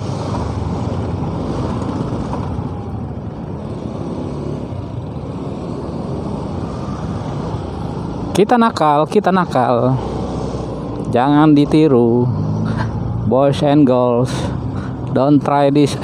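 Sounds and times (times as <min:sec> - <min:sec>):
motorcycle engine rumble: 0:00.0 - 0:16.0
road and wind noise: 0:00.0 - 0:16.0.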